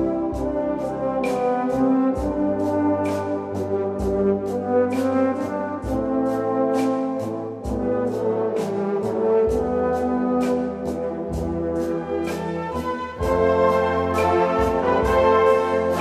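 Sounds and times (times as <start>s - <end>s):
brass instrumental music: 0.0s - 16.0s.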